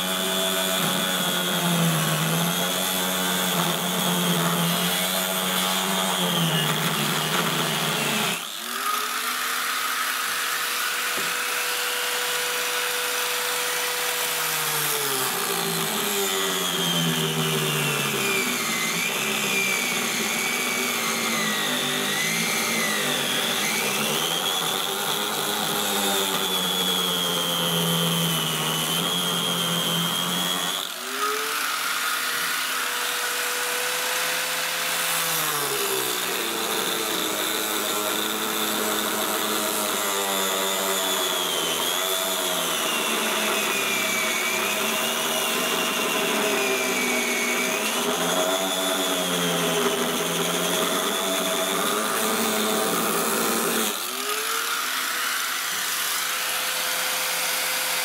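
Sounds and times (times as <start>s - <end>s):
angle grinder cutting plastic: 0.0s - 58.0s.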